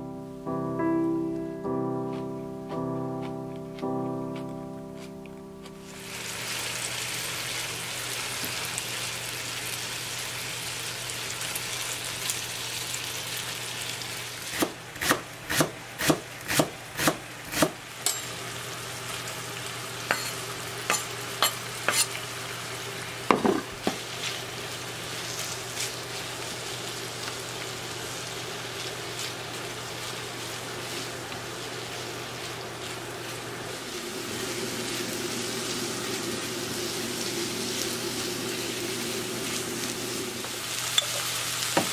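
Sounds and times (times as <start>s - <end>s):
food sizzling in a pan: 5.8s - 41.9s.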